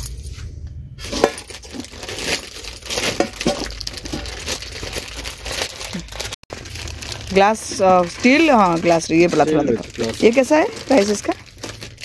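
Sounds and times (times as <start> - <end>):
plastic packaging crinkling: 1.0 - 12.0.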